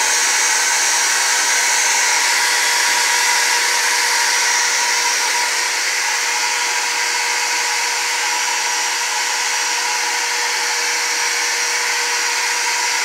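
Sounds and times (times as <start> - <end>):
shop vacuum motor whining: 0.0 - 13.0.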